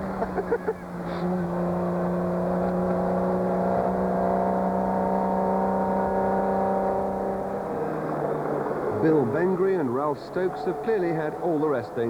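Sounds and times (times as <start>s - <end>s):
rally car engine running: 0.0s - 12.0s.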